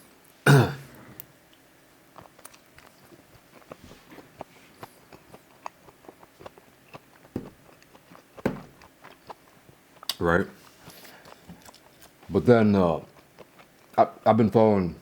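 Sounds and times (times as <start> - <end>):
chewing with mouth clicks: 1.5 - 12.4, 13.0 - 14.0.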